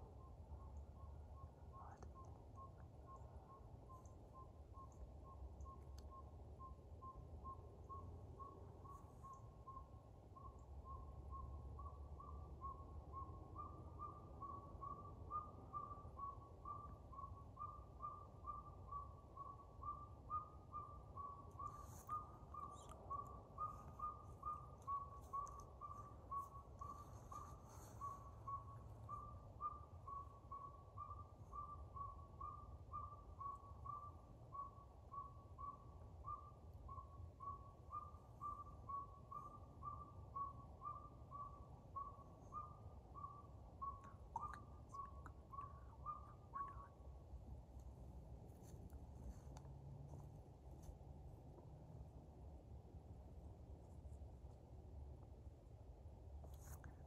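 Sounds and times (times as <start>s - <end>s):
owl whistled toots: 1.4s - 47.0s.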